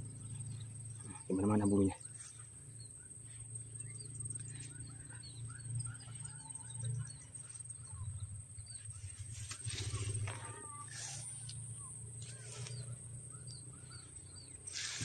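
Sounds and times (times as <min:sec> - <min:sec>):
low handling rumble: 0:00.0 - 0:15.0
small birds chirping: 0:00.0 - 0:15.0
steady high whine: 0:00.0 - 0:15.0
grass rustling: 0:00.2 - 0:05.3, 0:07.1 - 0:15.0.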